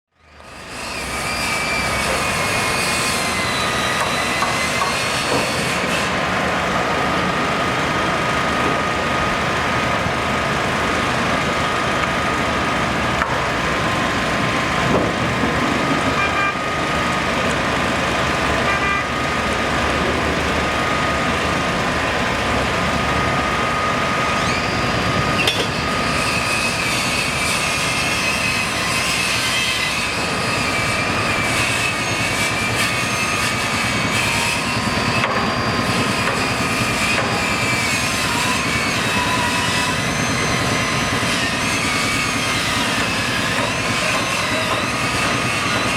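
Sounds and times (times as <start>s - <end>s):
construction machinery: 0.1s - 45.9s
constant high whine: 0.2s - 45.9s
traffic noise: 0.2s - 45.9s.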